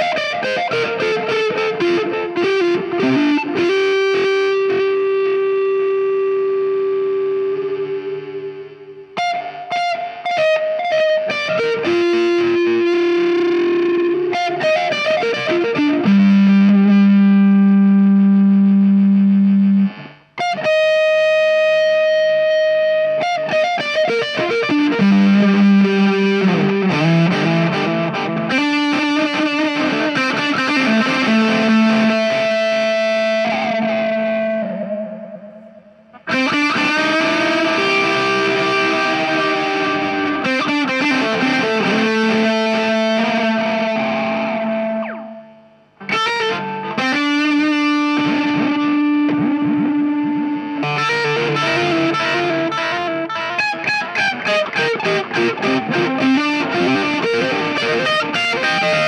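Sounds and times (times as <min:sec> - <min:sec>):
distorted electric guitar lead: 0:00.0 - 0:59.0.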